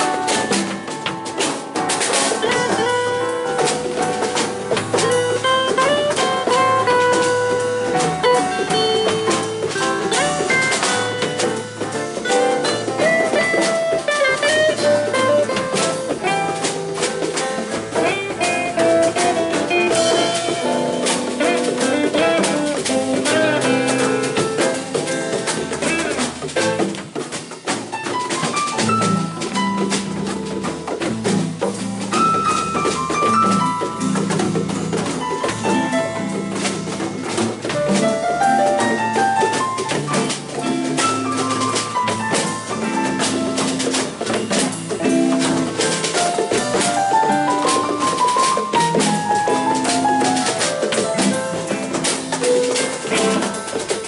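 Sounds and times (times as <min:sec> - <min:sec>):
drum kit with cymbals: 0:00.0 - 0:54.0.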